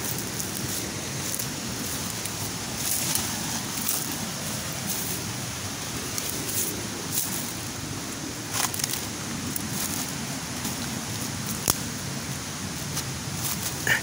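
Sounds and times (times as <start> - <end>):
footsteps crunching through dry leaves: 0.0 - 14.0
steady rushing noise: 0.0 - 14.0.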